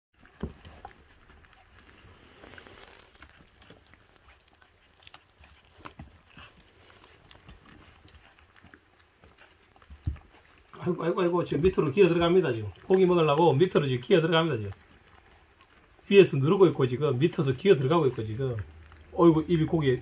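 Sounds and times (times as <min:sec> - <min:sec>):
puppies chewing and smacking: 0:00.1 - 0:20.0
puppies grunting and squeaking: 0:00.3 - 0:20.0.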